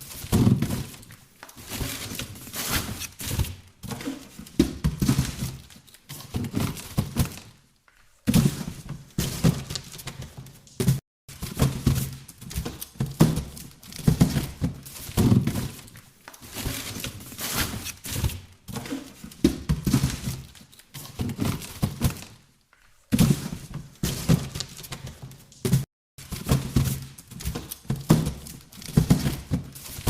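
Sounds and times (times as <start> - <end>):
boxes scraping and rustling: 0.0 - 7.5, 8.2 - 22.4, 23.0 - 30.0
boxes thudding and knocking: 0.0 - 7.6, 8.2 - 22.4, 23.0 - 30.0.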